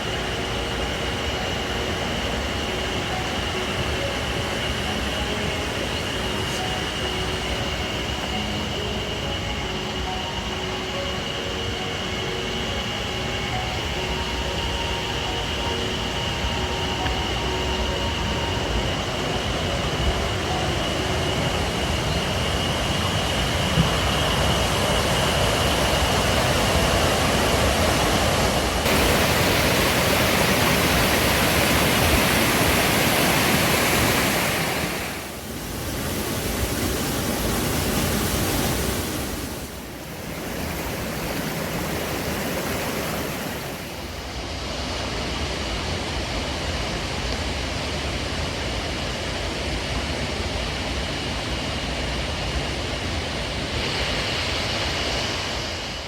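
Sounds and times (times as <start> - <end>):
waterfall rushing: 0.0 - 50.8.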